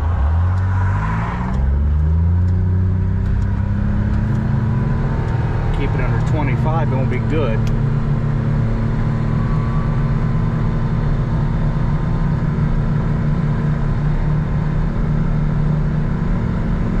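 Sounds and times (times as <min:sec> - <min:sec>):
road noise: 0:00.0 - 0:17.0
vehicle engine running steadily: 0:00.0 - 0:17.0.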